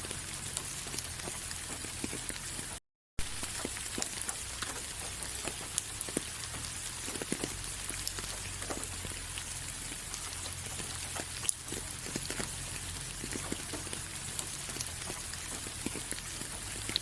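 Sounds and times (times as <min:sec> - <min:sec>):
raindrops ticking on surface: 0:00.0 - 0:17.0
steady rain hiss: 0:00.0 - 0:17.0.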